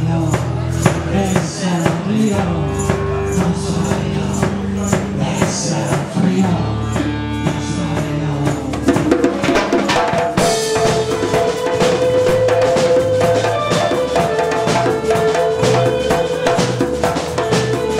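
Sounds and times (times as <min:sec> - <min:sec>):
bass guitar: 0:00.0 - 0:17.9
congas: 0:00.0 - 0:17.9
drum kit: 0:00.0 - 0:17.9
electric guitar: 0:00.0 - 0:17.9.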